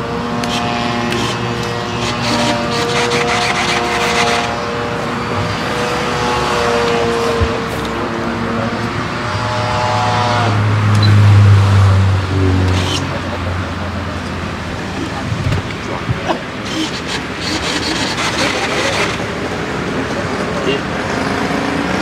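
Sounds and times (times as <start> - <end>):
model aircraft engine whine: 0.0 - 22.0.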